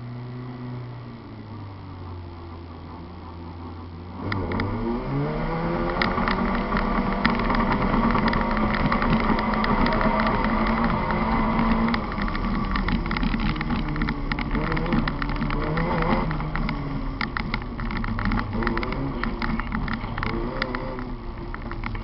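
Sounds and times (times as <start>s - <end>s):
car engine revving: 0.0s - 22.0s
gravel striking car: 2.6s - 22.0s.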